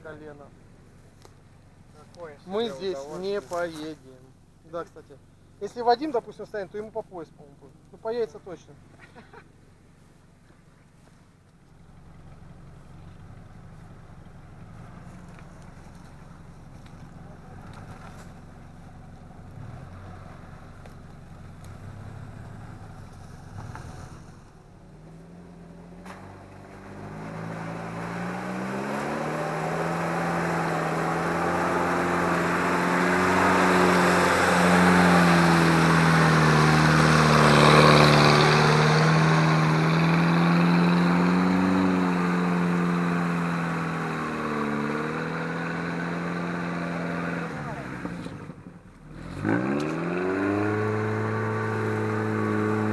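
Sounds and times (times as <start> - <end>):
off-road vehicle engine revving: 1.2 - 7.3, 11.8 - 52.9.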